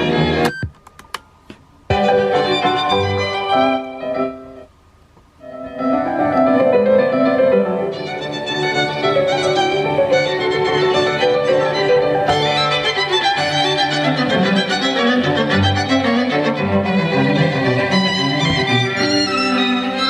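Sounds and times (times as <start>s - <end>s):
violin with piano: 1.9s - 4.7s, 5.4s - 20.0s.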